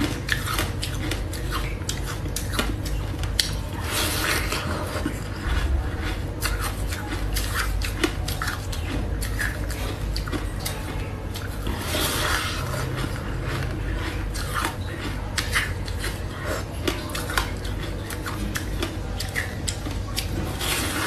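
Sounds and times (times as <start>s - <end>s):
ice crunching being chewed: 0.0s - 21.0s.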